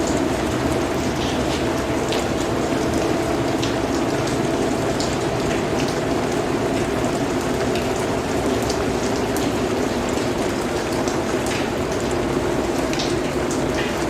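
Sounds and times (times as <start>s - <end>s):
drops ticking on a surface: 0.0s - 14.0s
heavy rain pouring: 0.0s - 14.0s.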